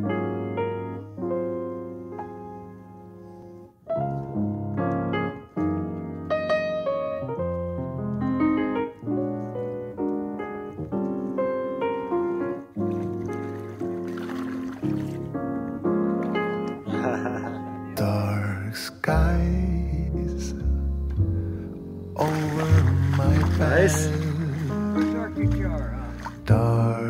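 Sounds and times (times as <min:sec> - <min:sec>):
piano melody: 0:00.0 - 0:27.0.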